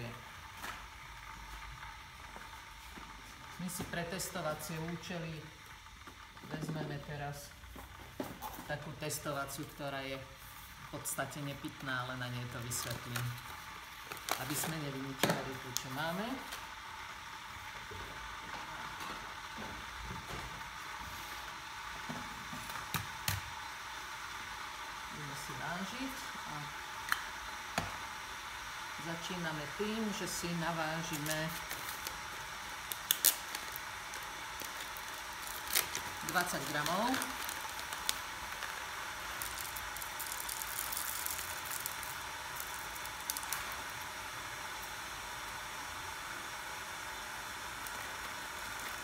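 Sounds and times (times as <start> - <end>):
background hiss: 0.0 - 49.0.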